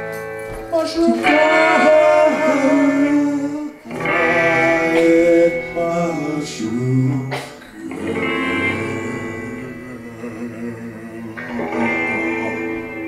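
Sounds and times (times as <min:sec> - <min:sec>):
guitar playing: 0:00.0 - 0:13.0
person singing: 0:00.0 - 0:13.0.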